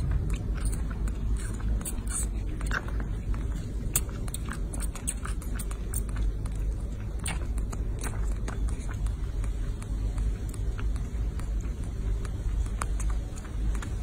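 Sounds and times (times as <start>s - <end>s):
baby monkey sucking bottle: 0.0s - 14.0s
steady low rumble: 0.0s - 14.0s.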